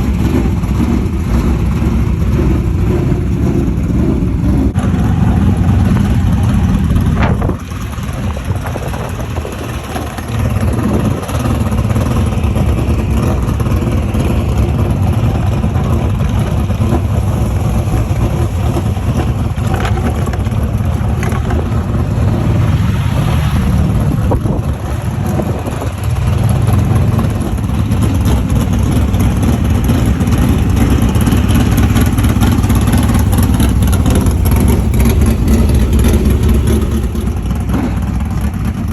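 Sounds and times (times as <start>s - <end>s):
race car engines rumbling: 0.0s - 38.9s.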